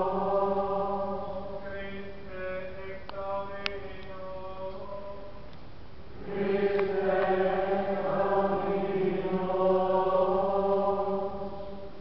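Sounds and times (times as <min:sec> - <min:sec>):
group chanting a hymn: 0:00.0 - 0:05.3, 0:06.1 - 0:12.0.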